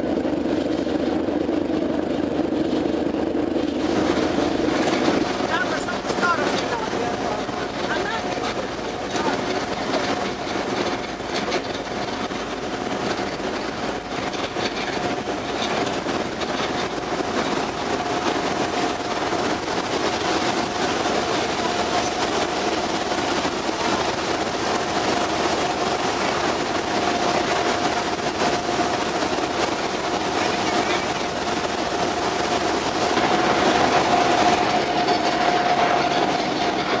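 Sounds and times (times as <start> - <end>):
constant hum: 0.0 - 37.0
ferry engine and water rushing: 0.0 - 37.0.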